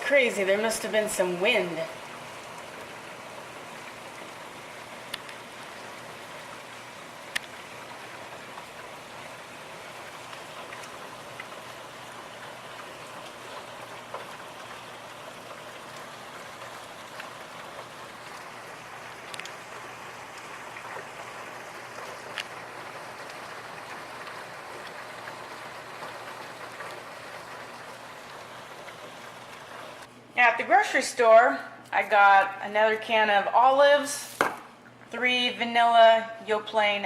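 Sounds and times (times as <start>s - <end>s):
steady rain patter: 0.0s - 30.1s.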